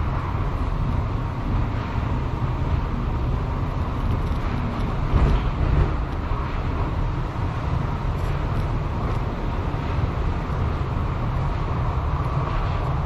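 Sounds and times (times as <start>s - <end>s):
people-mover car rumbling and hissing: 0.0s - 13.0s.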